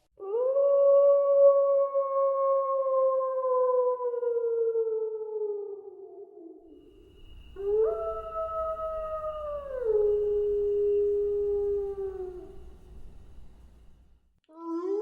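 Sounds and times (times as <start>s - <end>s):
wolf howling: 0.2s - 13.8s.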